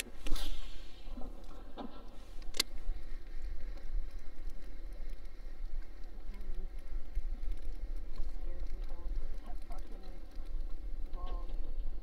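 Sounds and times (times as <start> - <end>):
faint light ticks: 1.4 - 12.0.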